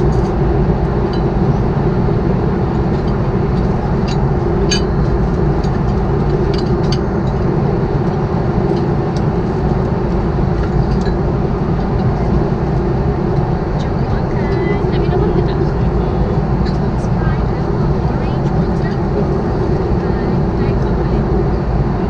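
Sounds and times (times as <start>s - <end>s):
airliner engine and airflow drone: 0.0s - 22.0s.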